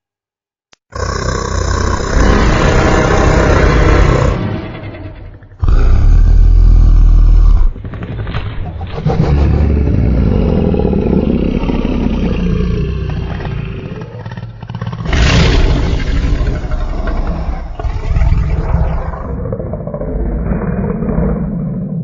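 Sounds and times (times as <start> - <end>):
dinosaur roars: 0.9 - 22.0.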